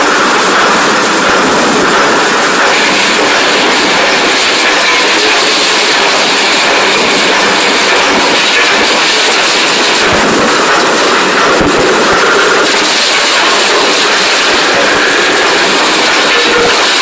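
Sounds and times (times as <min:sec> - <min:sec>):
dredger machinery noise: 0:00.0 - 0:17.0.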